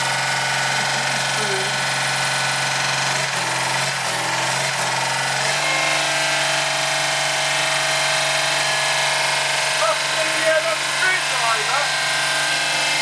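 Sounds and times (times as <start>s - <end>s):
air-cooled engine running: 0.0s - 13.0s.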